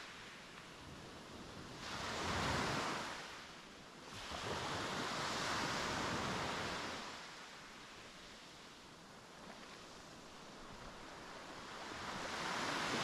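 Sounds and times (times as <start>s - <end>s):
sea waves breaking on a beach: 0.0s - 13.0s.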